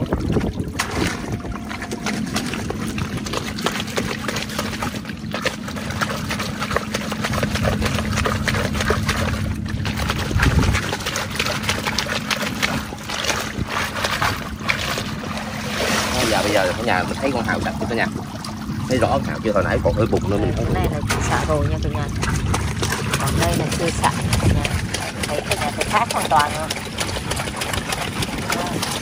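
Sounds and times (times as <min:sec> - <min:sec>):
low hum: 0:00.0 - 0:29.0
oysters clicking: 0:00.0 - 0:29.0
water pouring and splashing: 0:00.0 - 0:29.0.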